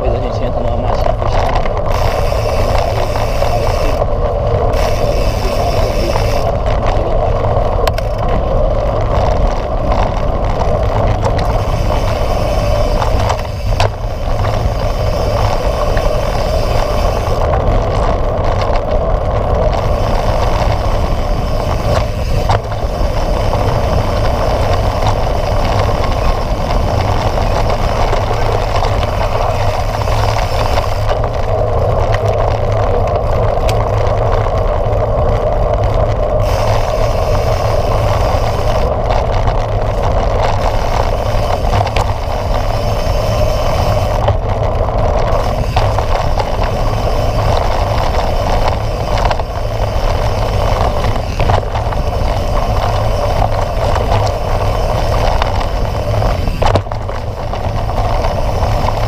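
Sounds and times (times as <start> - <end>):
bike clicks and rattles: 0.0 - 59.0
tyre and wind rush: 0.0 - 59.0.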